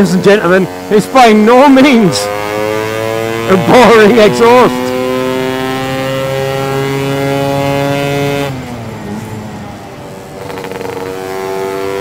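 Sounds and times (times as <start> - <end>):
scooter engine accelerating: 0.0 - 12.0.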